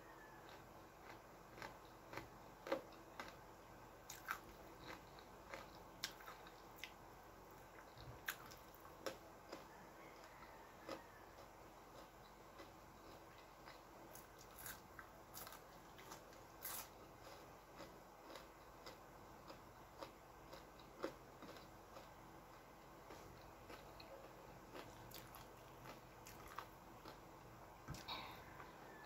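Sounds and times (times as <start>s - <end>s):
faint steady hum: 0.0s - 29.0s
chewing and biting food: 0.2s - 3.5s, 4.1s - 29.0s.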